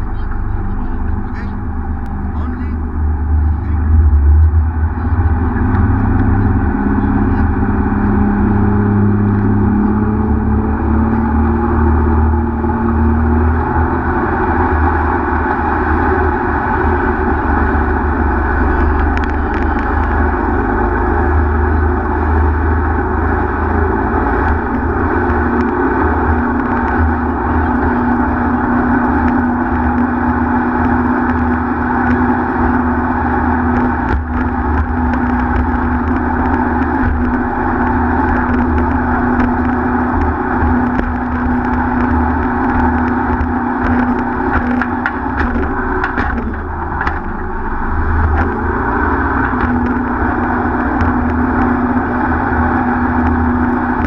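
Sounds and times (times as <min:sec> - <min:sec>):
speedboat engine droning: 0:00.0 - 0:54.0.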